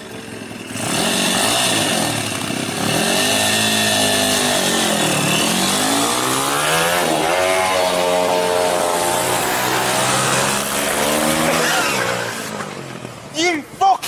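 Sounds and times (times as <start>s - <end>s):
motorcycle engine revving hard: 0.0s - 13.1s.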